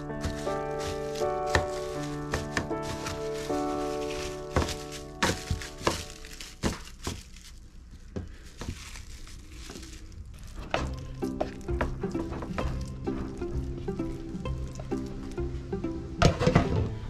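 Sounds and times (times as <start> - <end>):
cling film crinkling: 0.0 - 15.4.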